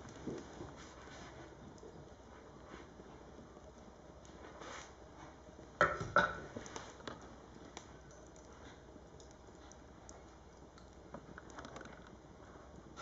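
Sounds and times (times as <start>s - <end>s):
firewood crackling: 0.0s - 13.0s.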